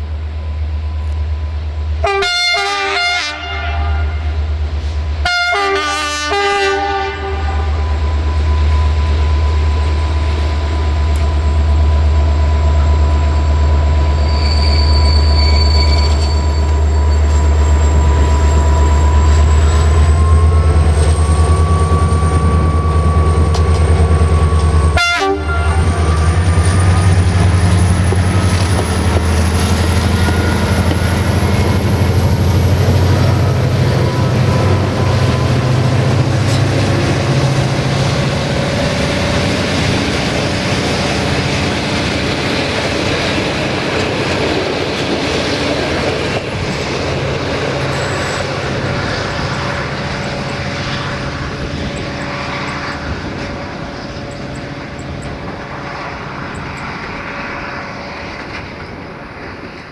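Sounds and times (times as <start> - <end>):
diesel locomotive engine drone: 0.0 - 59.9
train coaches rolling on rails: 0.0 - 59.9.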